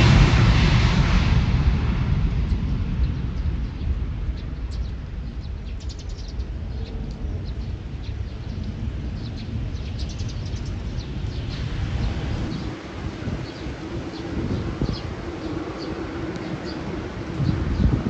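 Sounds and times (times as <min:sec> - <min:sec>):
distant jet engine: 0:00.0 - 0:18.0
wind rumble: 0:00.0 - 0:18.0
small birds chirping: 0:03.0 - 0:18.0.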